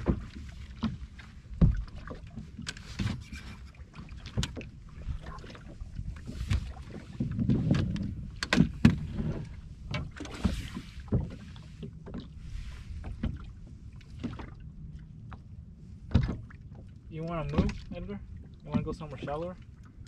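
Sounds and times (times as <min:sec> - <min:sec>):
knocks and clatter on boat deck: 0:00.0 - 0:19.9.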